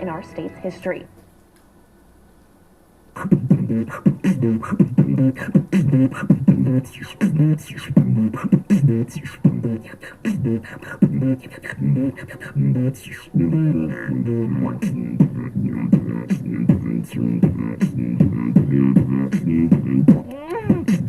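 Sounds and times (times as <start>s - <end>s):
beatboxing: 3.1s - 21.0s.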